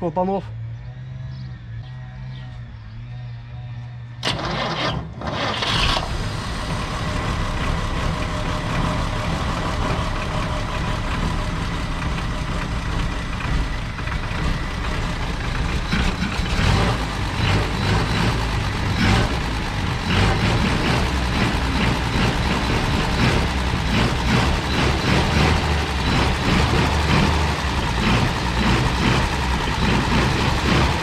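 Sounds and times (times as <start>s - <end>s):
truck engine starting and running: 0.0s - 31.0s.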